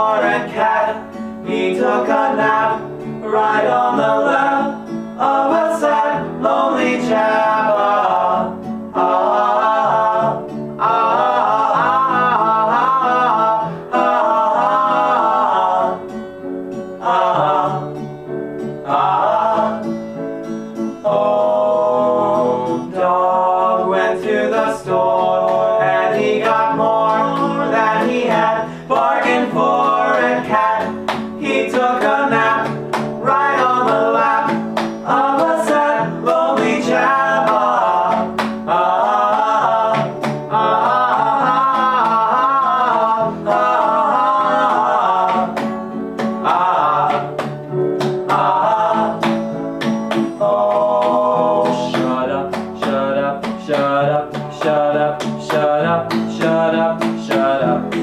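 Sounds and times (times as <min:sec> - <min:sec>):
acoustic guitar: 0:00.0 - 0:58.0
people singing: 0:00.0 - 0:58.0.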